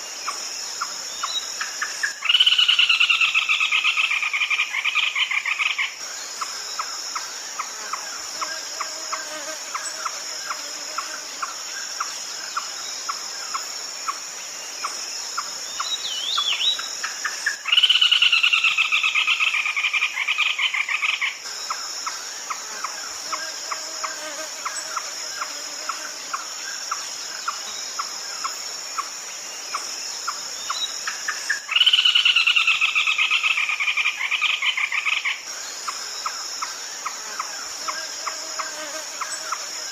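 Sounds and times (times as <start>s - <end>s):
high insect buzz: 0.0s - 39.9s.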